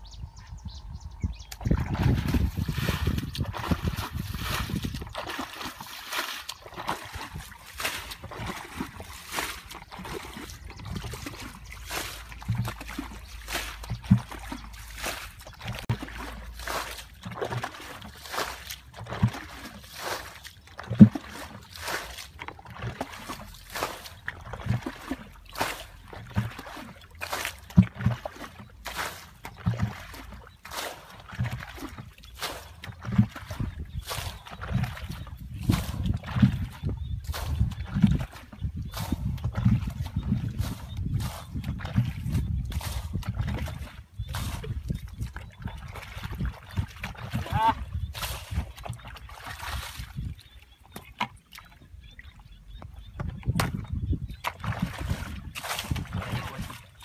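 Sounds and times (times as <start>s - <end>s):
hands squelching through mud: 1.5s - 51.8s, 53.4s - 57.0s.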